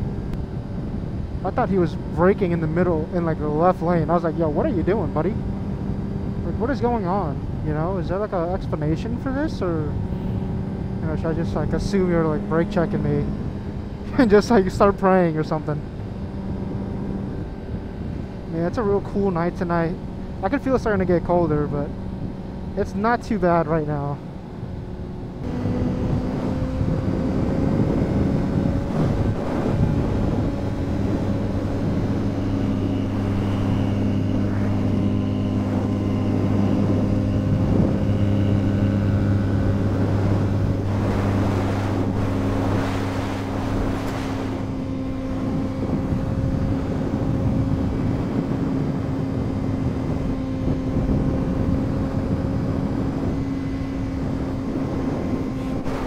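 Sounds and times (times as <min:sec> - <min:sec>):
motorcycle engine cruising: 0:00.0 - 0:56.0
wind rushing over microphone: 0:00.0 - 0:56.0.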